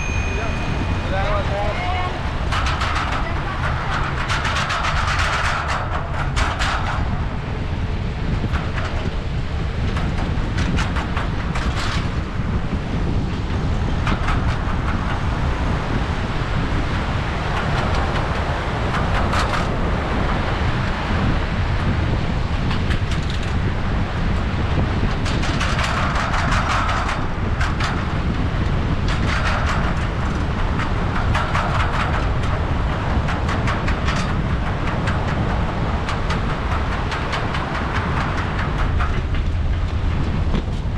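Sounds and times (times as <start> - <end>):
train rumbling past: 0.0 - 40.9
wheels clicking on rails: 0.0 - 40.9.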